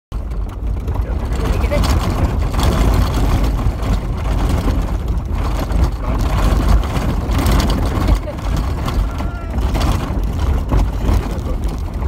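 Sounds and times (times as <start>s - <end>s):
vehicle rumbling on dirt track: 0.1s - 12.0s.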